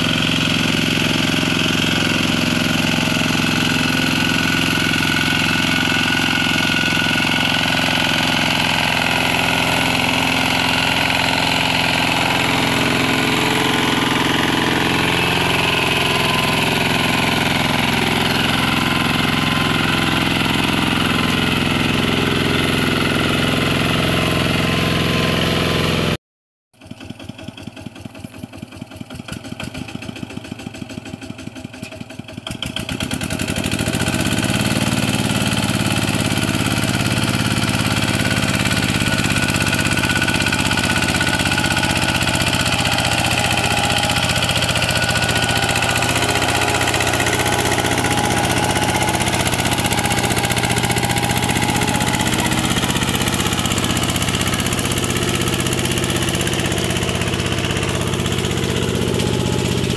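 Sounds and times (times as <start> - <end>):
diesel engine chugging: 0.0 - 26.1, 26.8 - 59.9.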